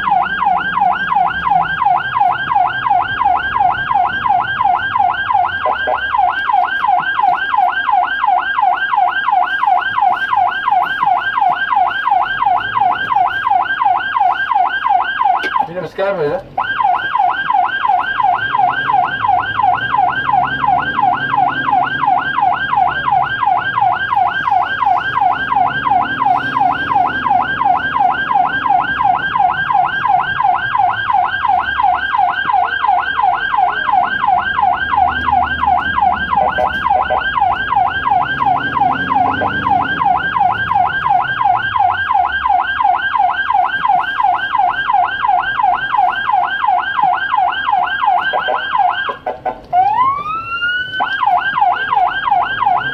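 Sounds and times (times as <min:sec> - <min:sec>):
ambulance siren yelping: 0:00.0 - 0:52.9.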